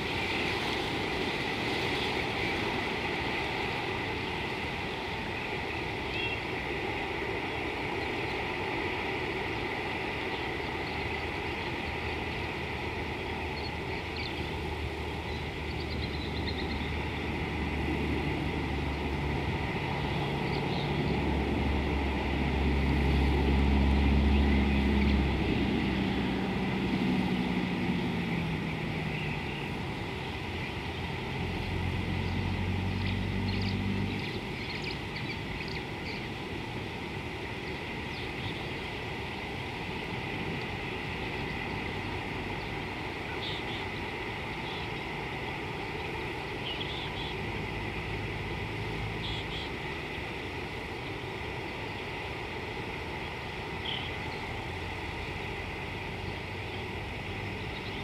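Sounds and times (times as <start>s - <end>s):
distant engine drone: 0.0s - 58.0s
steady outdoor hiss: 0.0s - 58.0s.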